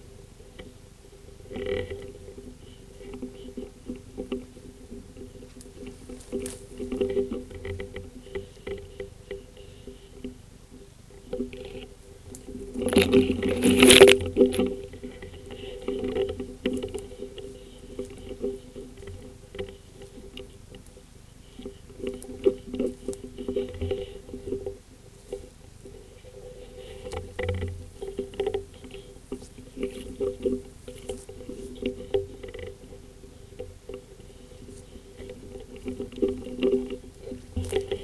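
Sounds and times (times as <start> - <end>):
brush scraping against microphone: 1.4 - 10.3, 11.2 - 38.0.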